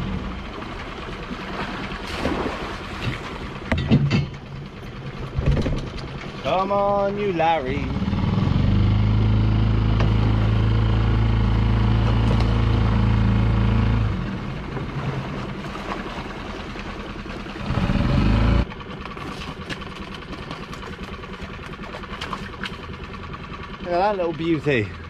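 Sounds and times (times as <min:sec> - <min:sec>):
outboard engine humming: 0:00.0 - 0:25.0.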